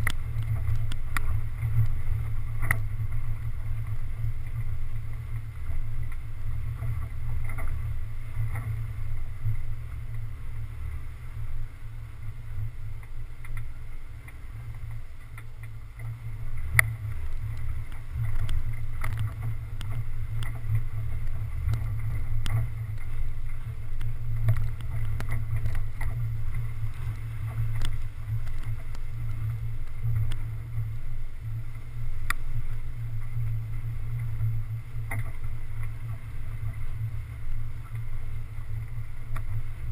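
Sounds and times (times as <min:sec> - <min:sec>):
muffled vehicle engine rumble: 0:00.0 - 0:39.9.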